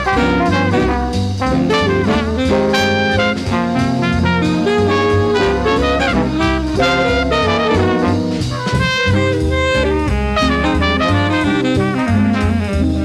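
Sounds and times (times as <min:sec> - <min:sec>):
bass: 0:00.0 - 0:13.0
drum kit: 0:00.0 - 0:13.0
trumpet playing jazz melody: 0:00.0 - 0:13.0.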